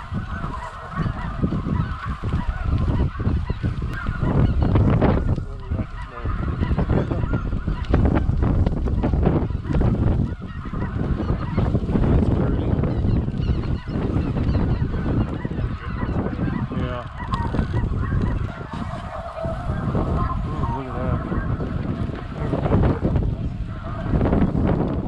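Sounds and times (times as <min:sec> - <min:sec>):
geese honking: 0:00.0 - 0:25.0
wind rumble on microphone: 0:00.0 - 0:25.0.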